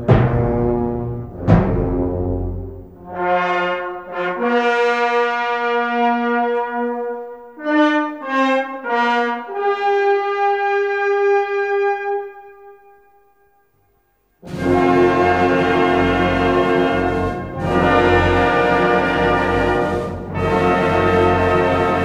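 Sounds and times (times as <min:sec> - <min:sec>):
brass section playing held chords: 0:00.0 - 0:22.0.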